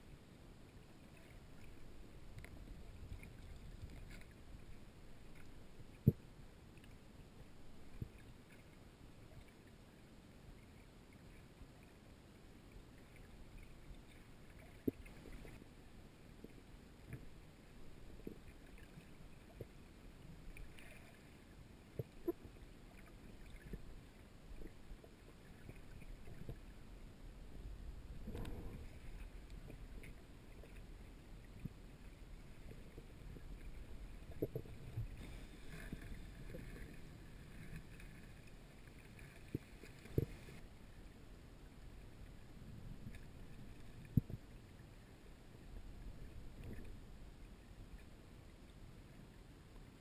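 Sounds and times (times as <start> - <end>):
muffled underwater rumble: 0.0 - 49.4.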